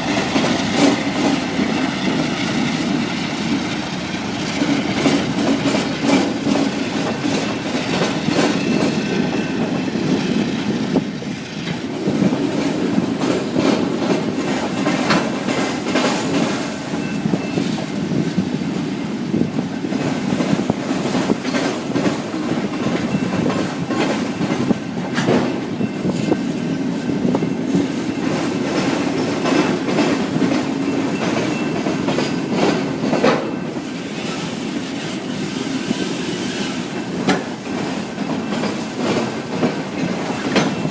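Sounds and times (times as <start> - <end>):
wheels clacking over rail joints: 0.0 - 40.9.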